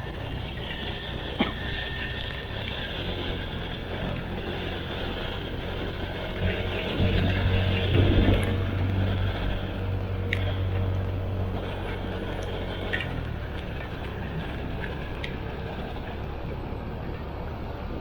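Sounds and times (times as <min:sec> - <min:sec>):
heavy rain: 0:00.0 - 0:16.5
vehicle engine humming: 0:00.0 - 0:18.0.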